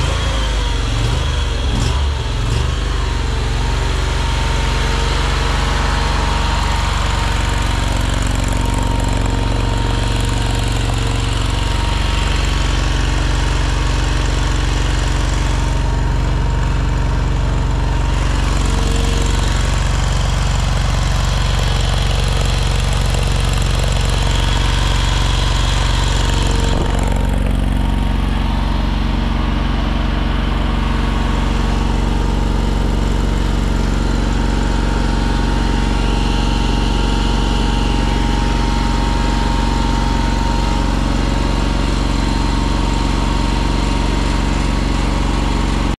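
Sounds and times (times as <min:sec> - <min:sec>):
skid steer engine idling: 0:00.0 - 0:46.0.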